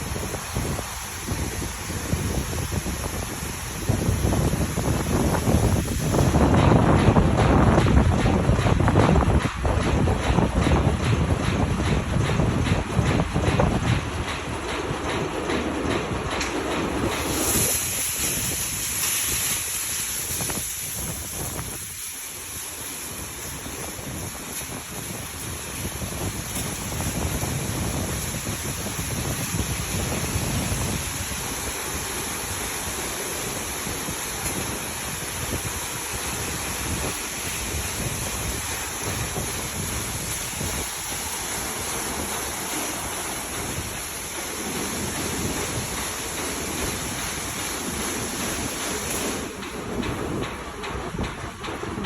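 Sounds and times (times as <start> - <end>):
water spraying in car wash: 0.0 - 15.0, 16.1 - 52.0.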